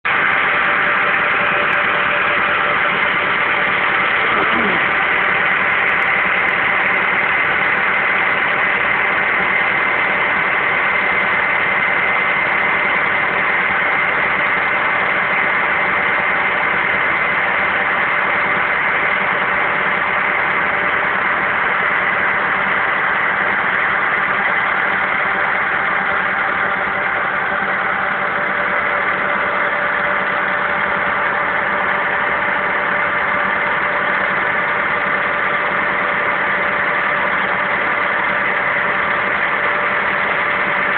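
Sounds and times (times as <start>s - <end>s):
steady whine: 0.0s - 40.9s
tractor engine idling: 0.0s - 40.9s.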